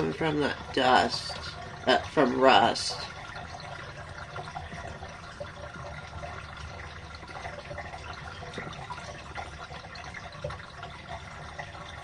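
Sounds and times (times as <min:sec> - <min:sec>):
water running with splashes: 0:00.0 - 0:12.0.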